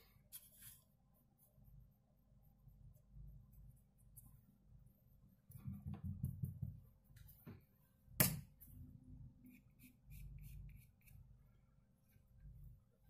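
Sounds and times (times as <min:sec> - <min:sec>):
brush scraping oil paint: 0:00.0 - 0:07.9, 0:09.3 - 0:13.0.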